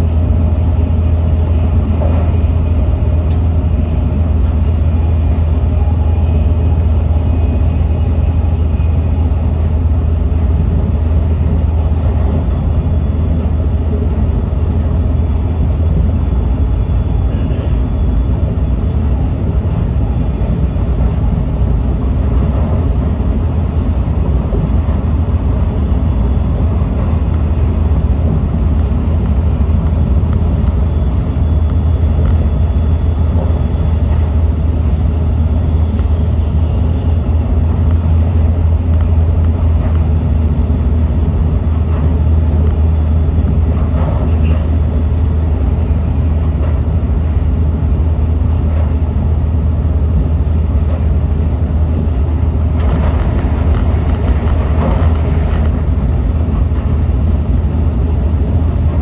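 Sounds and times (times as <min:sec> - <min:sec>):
passing train hissing rush: 0:00.0 - 0:59.0
train cabin rumble: 0:00.0 - 0:59.0.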